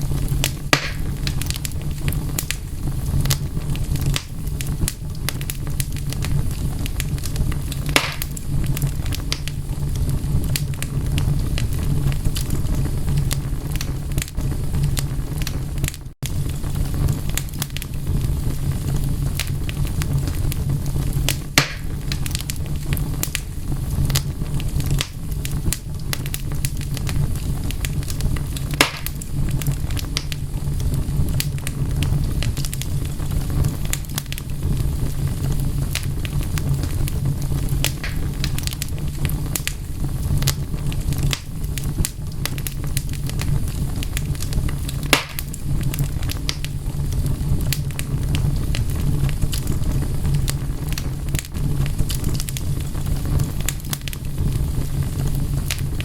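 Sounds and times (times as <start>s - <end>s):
fire burning rumble: 0.0s - 56.0s
fire snaps and pops: 0.0s - 56.0s.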